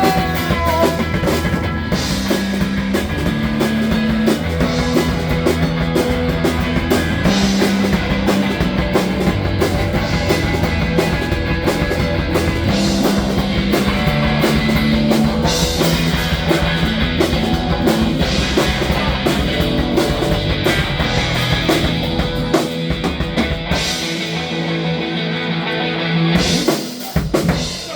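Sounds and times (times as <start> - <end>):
drum kit hitting: 0.0 - 24.4.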